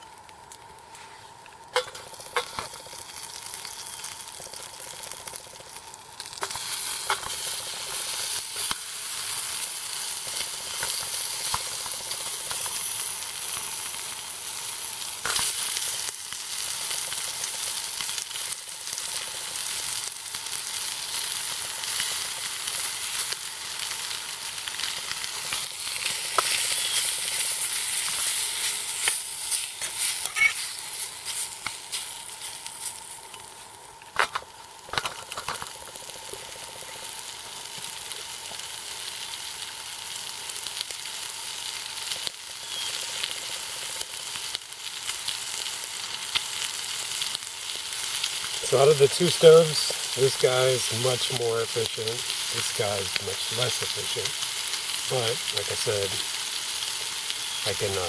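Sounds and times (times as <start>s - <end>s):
meat sizzling and popping: 0.0s - 58.0s.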